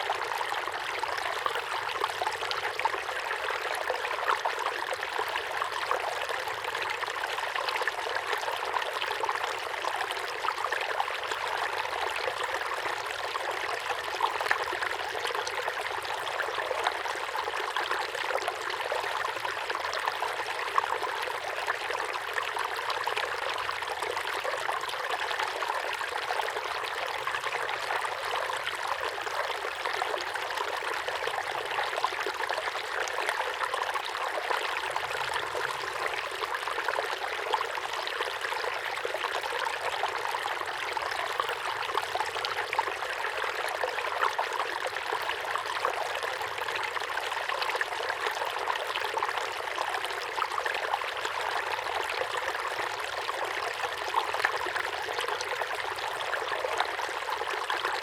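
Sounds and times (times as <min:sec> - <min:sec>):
waterfall pouring into pond: 0:00.0 - 0:58.0.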